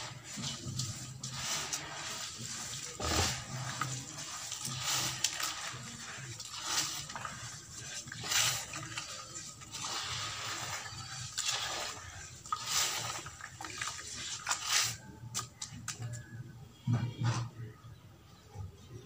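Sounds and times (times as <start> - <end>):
hands squelching wet sand: 0.0 - 16.3.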